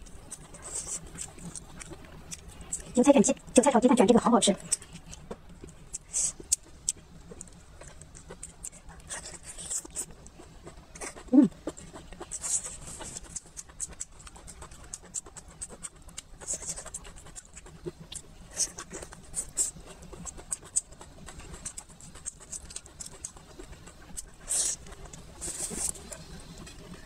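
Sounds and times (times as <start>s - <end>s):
wet chewing: 0.0s - 27.0s.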